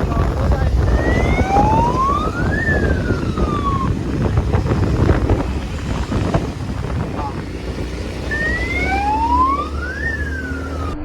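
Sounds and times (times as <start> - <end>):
low rumble of riding noise: 0.0 - 11.0
electronic siren wail: 0.7 - 6.8, 8.1 - 11.0.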